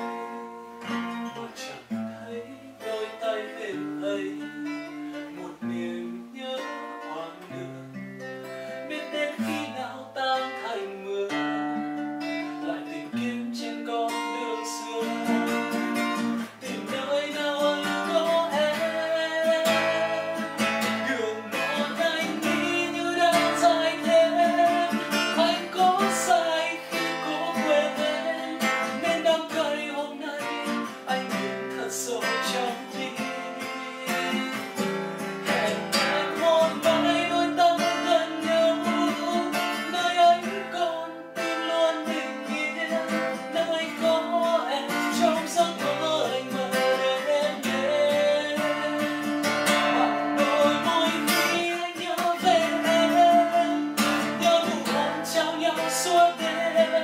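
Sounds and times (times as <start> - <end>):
acoustic guitar chords: 0.0 - 57.0
man singing: 0.0 - 57.0.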